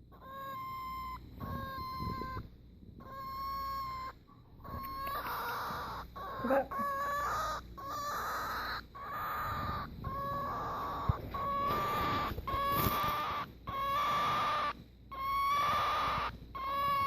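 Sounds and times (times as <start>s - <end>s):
cockatiel calling: 0.0s - 17.0s.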